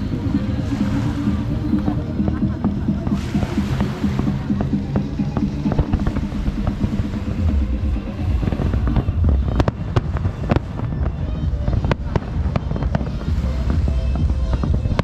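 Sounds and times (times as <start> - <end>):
deep rumble: 0.0 - 15.0
show music: 0.0 - 15.0.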